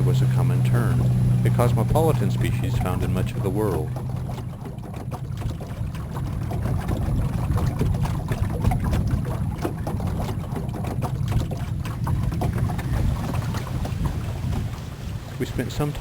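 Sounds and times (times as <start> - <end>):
boat engine rumble: 0.0 - 16.0
water splashing against hull: 0.0 - 16.0.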